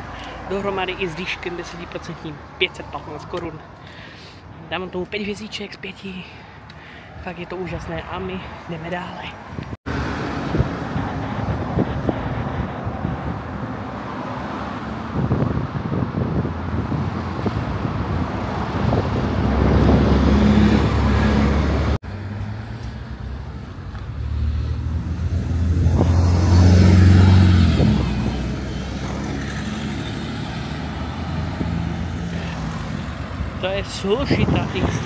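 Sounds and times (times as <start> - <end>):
steady traffic noise: 0.0 - 35.0
vehicles passing close by: 0.0 - 35.0.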